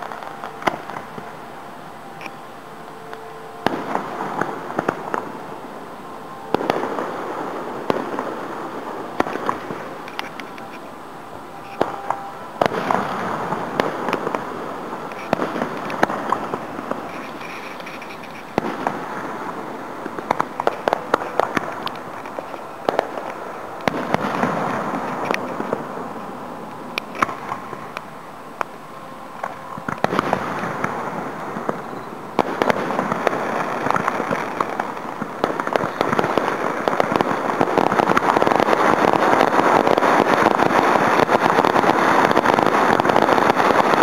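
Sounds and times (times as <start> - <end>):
small fireworks pops: 0.0 - 5.5, 6.5 - 10.9, 11.5 - 44.0
distant fireworks bangs with echo: 0.0 - 44.0.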